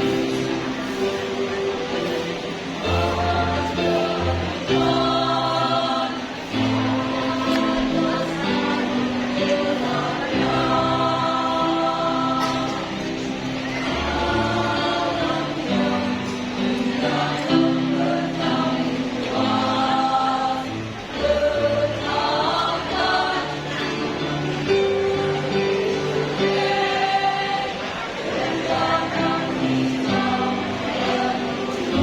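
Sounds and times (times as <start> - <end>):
choir singing a hymn: 0.0 - 32.0.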